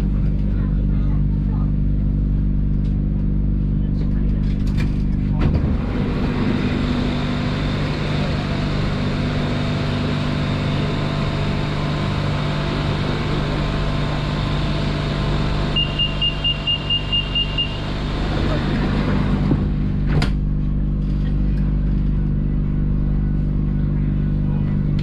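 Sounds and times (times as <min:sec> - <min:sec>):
train electric hum and rumble: 0:00.0 - 0:25.0.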